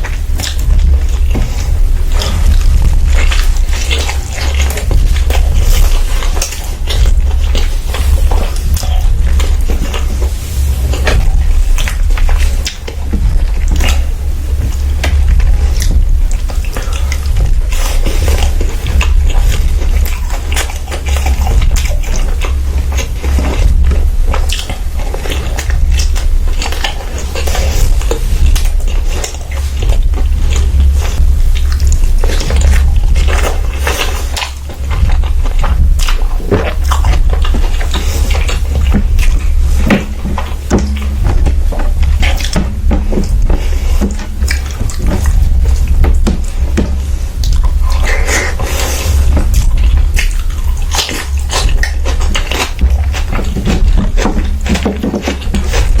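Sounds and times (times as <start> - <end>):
person chewing: 0.0 - 56.0
steady low hum: 0.0 - 56.0.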